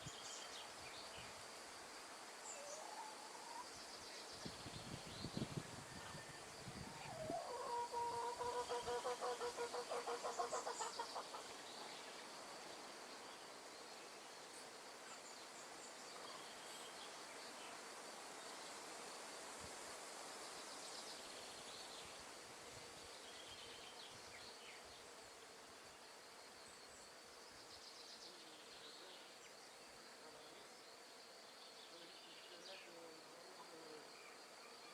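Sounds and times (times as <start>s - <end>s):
soft hiss: 0.0s - 7.6s, 10.6s - 34.9s.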